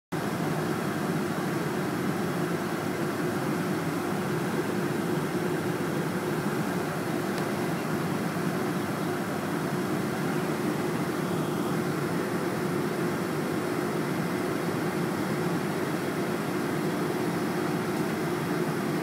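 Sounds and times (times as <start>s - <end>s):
airliner engines droning: 0.2s - 19.0s.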